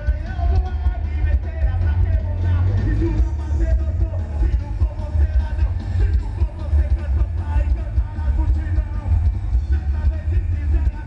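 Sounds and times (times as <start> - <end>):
heavy pulsing bass: 0.0 - 11.0
live rock band playing: 0.0 - 11.0.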